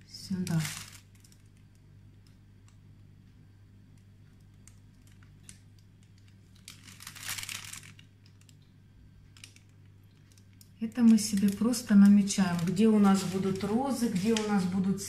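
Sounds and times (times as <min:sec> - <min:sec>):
plastic piping bag crinkling: 0:00.0 - 0:02.9, 0:04.3 - 0:15.0
faint low hum: 0:00.0 - 0:15.0.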